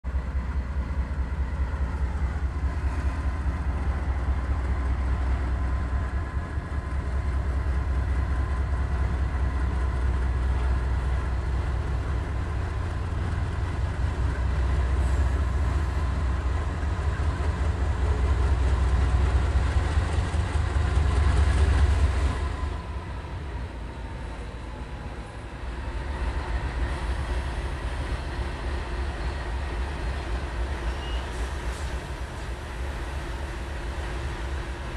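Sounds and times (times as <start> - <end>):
diesel locomotives passing: 0.0 - 34.9.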